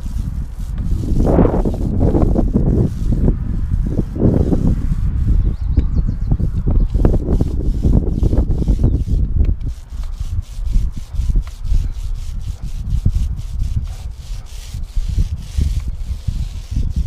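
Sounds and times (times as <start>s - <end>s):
paintbrush scrubbing wood: 0.0s - 5.5s, 6.8s - 17.0s.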